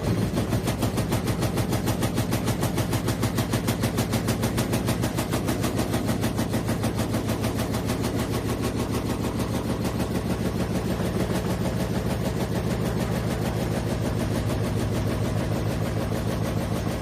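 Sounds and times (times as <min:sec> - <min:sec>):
washing machine drum spinning: 0:00.0 - 0:17.0.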